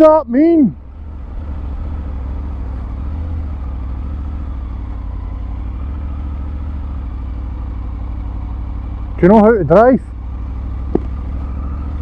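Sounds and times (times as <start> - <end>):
motorcycle engine idling low: 0.0 - 12.0.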